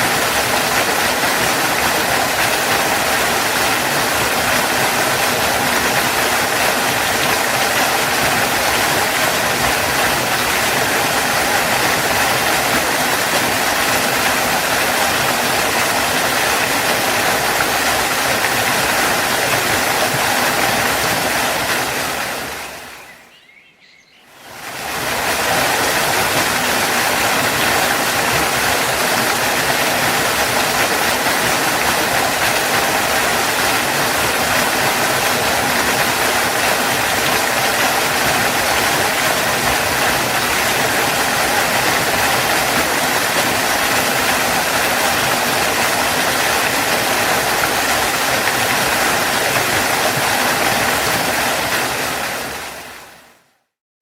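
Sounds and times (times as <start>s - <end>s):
waterfall roaring: 0.0s - 53.4s.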